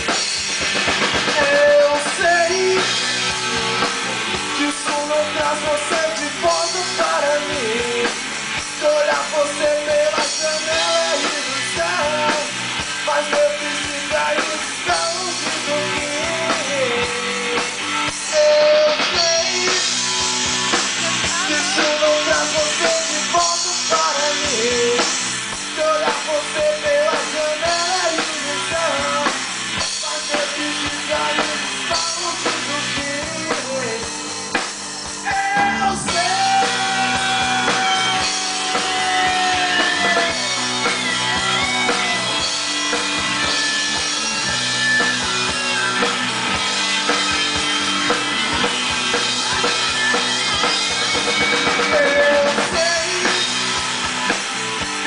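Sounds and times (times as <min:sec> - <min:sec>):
drum kit beat: 0:00.0 - 0:55.0
electric guitars: 0:00.0 - 0:55.0.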